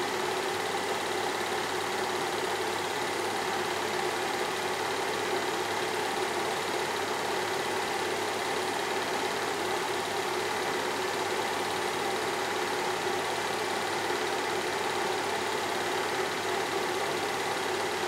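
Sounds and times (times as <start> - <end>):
film projector whirring and clattering: 0.0 - 18.0.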